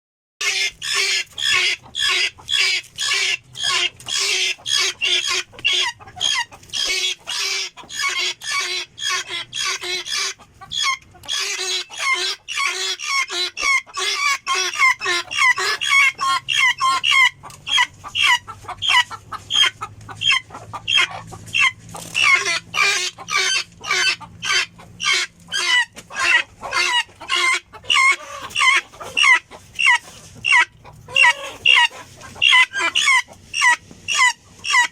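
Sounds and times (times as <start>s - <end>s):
guineafowl calling: 0.4s - 34.9s.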